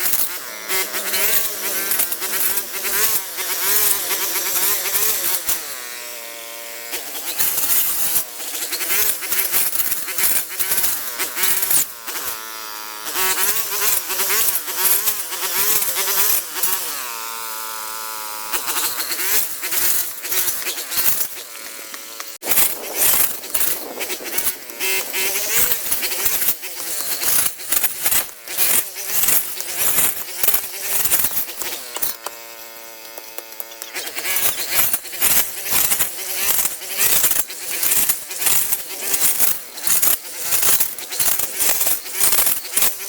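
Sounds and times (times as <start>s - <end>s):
small motor buzzing: 0.0s - 43.0s.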